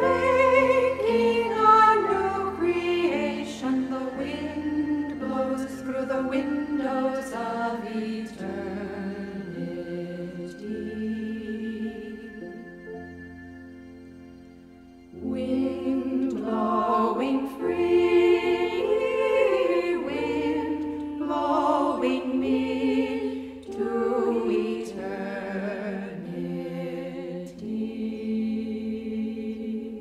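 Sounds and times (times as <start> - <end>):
voices singing together: 0.0 - 13.0, 15.2 - 30.0.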